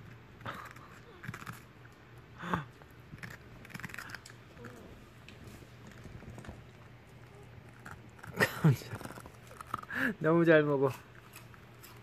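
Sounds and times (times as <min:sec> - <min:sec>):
dog crunching cucumber: 0:00.0 - 0:12.0.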